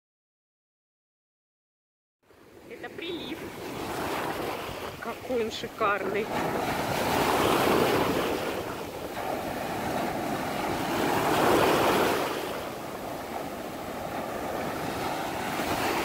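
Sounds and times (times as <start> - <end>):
waves breaking on sand: 2.3 - 16.0.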